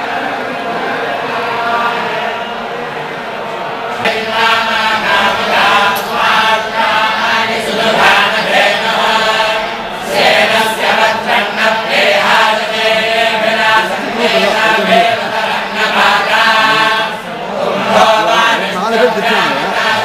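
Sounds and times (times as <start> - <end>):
boys chanting in unison: 3.9 - 20.0.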